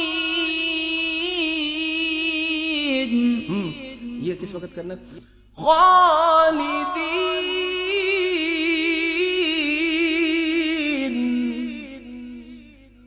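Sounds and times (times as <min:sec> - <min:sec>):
person reciting melodically: 0:00.0 - 0:13.0.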